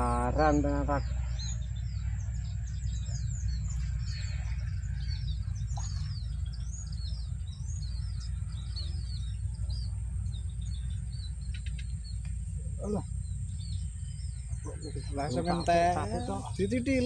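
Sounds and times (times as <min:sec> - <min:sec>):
small birds twittering: 0:00.0 - 0:17.0
wind rumble on microphone: 0:00.0 - 0:17.0.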